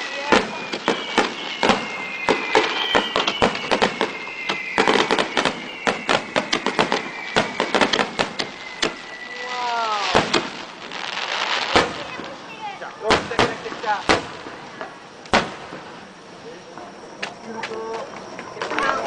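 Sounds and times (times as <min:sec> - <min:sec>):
long falling whistle: 0:00.0 - 0:13.0, 0:16.0 - 0:19.0
fireworks bangs and crackles: 0:00.0 - 0:19.0.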